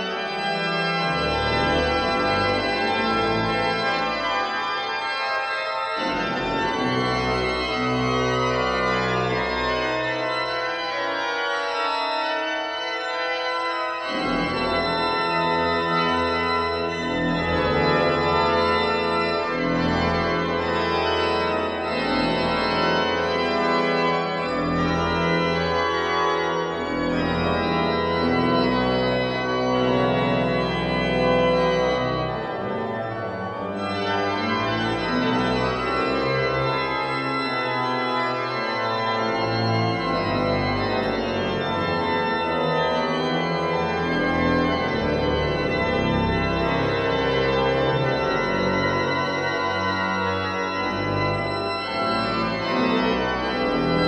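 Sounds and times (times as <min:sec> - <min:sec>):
pipe organ playing: 0:00.0 - 0:54.0.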